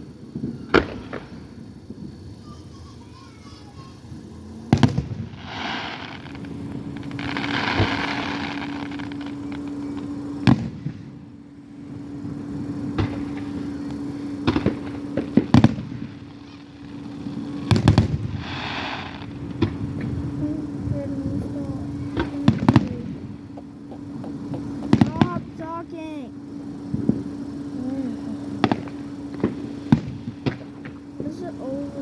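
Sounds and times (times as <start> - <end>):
fireworks bangs: 0.0 - 32.0
fireworks hiss: 0.0 - 32.0.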